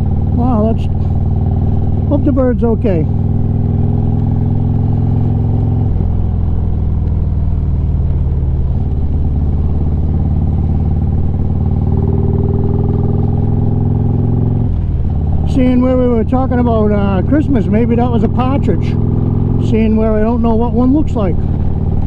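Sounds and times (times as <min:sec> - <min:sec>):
motorcycle engine cruising: 0:00.0 - 0:22.0
road and wind noise: 0:00.0 - 0:22.0.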